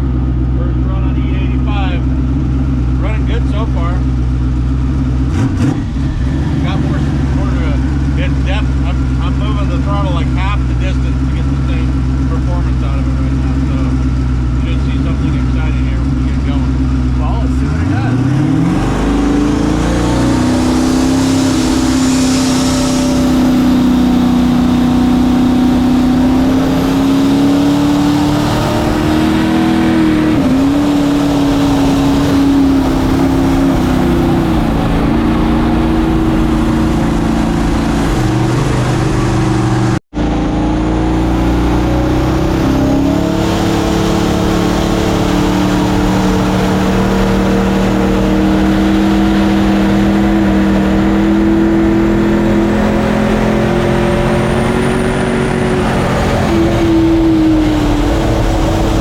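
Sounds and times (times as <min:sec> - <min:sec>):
jet boat engine running hard: 0:05.3 - 0:59.0.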